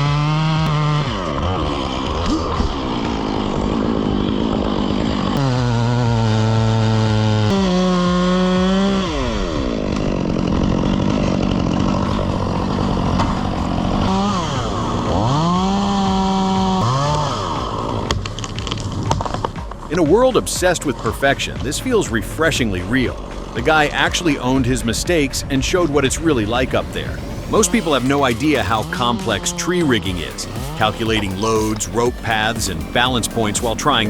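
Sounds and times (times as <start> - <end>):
chainsaw engine revving: 0.0 - 34.0.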